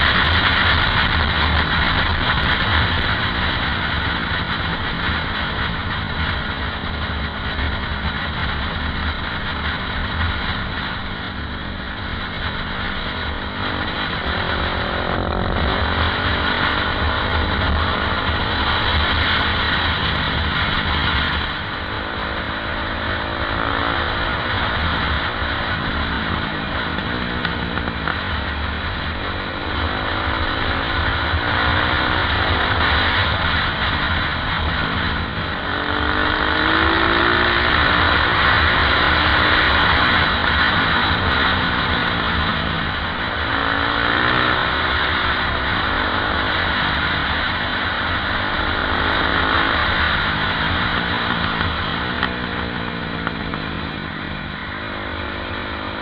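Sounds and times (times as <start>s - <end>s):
motorcycle engine revving: 0.0s - 56.0s
wind rushing over microphone: 0.0s - 56.0s.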